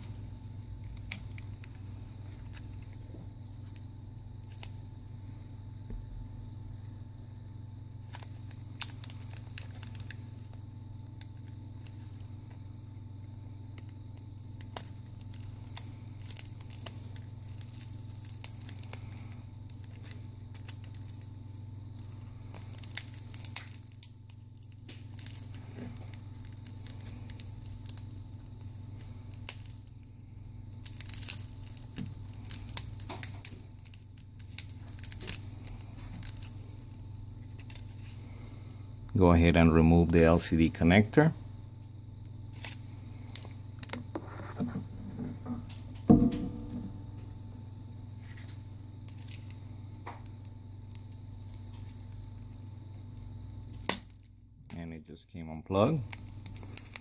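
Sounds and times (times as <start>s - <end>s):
low hum: 0.0s - 55.4s.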